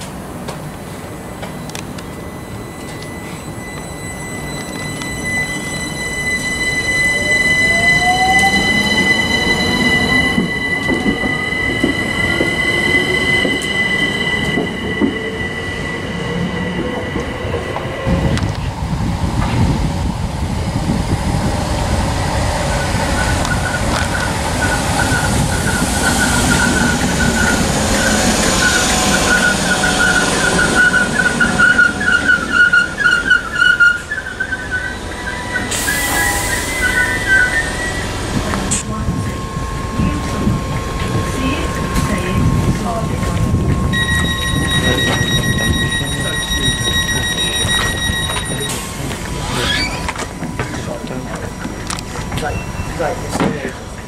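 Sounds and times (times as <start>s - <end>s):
electric train whine accelerating: 0.0s - 54.0s
train brakes squealing: 0.9s - 18.4s, 22.2s - 54.0s.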